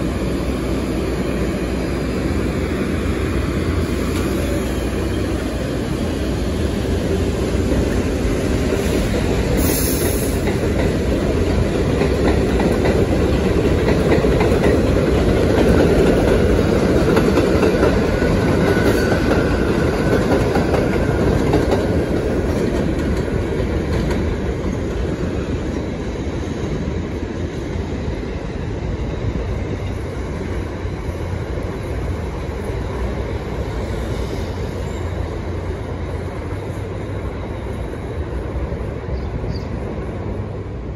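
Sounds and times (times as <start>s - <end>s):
train wheels clattering on rails: 2.2s - 40.3s.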